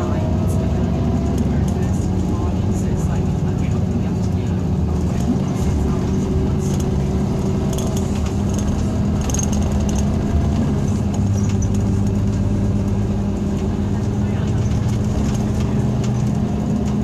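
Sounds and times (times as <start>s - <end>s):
coach engine drone: 0.0s - 17.0s
light rattles: 1.2s - 17.0s.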